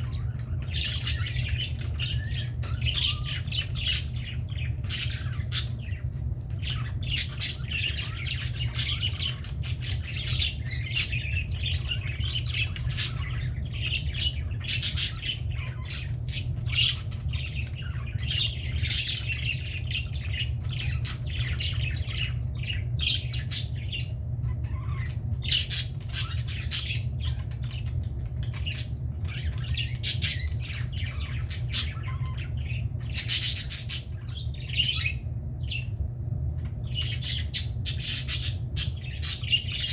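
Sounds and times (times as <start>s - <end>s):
budgerigars chattering and squawking: 0.0s - 36.0s, 36.7s - 39.9s
steady low hum: 0.0s - 39.9s.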